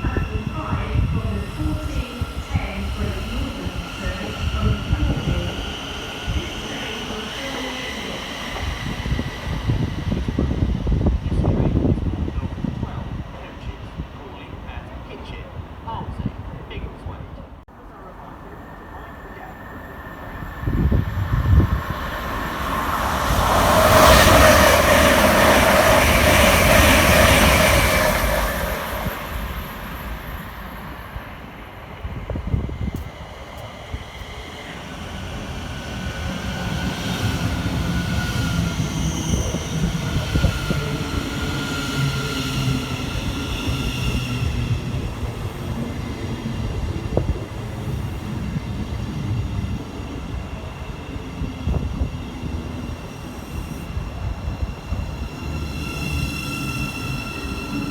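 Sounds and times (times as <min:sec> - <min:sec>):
train passing at speed: 0:00.0 - 0:57.9
train rumble with electric whine: 0:00.0 - 0:57.9.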